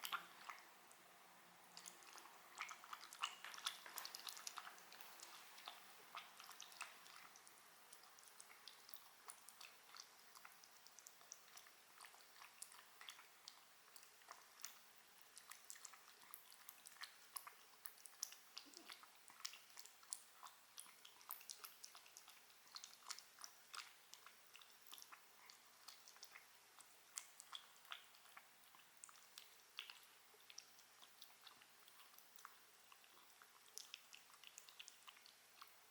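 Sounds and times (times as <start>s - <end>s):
pet chewing food: 1.6s - 35.9s.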